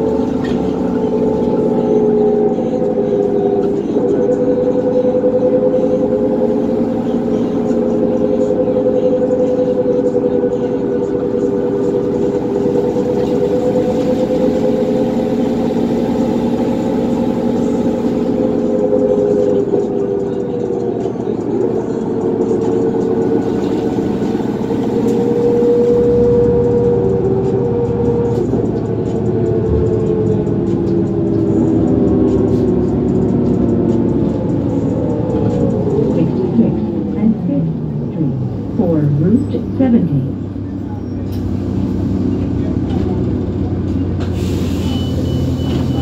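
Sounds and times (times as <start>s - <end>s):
bus diesel engine drone: 0.0s - 46.0s
whining drivetrain tones: 0.0s - 46.0s.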